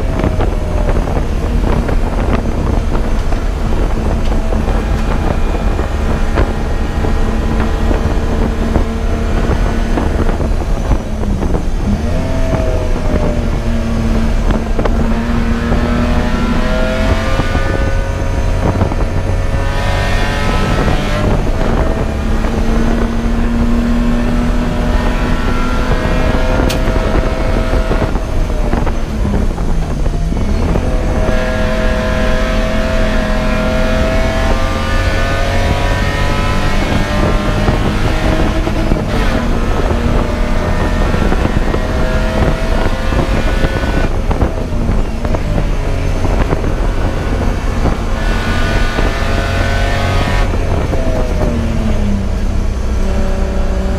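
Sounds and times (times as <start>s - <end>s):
race car engine at speed: 0.0s - 53.9s
wind and road noise: 0.0s - 53.9s.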